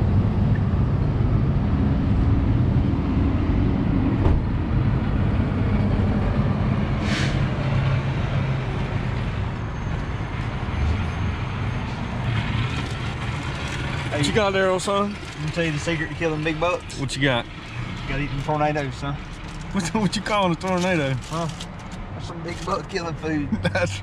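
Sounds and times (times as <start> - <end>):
idling engines and road traffic: 0.0 - 24.0.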